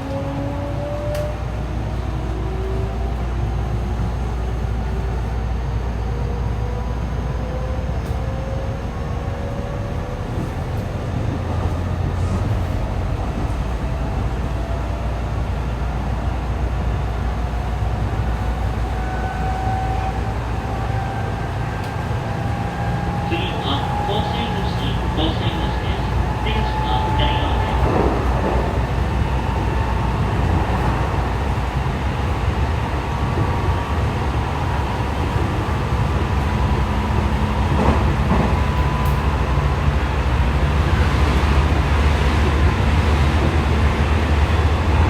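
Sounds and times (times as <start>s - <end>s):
train wheels rumbling on rails: 7.4s - 45.0s.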